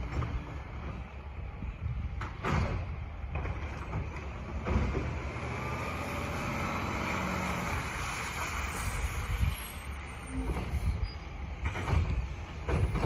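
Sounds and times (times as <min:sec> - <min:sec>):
garbage truck engine rumble: 0:00.0 - 0:13.0.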